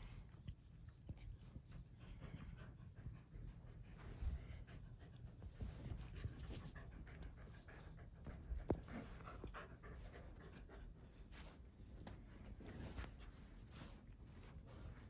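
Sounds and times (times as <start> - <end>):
dog panting: 0.2 - 15.0.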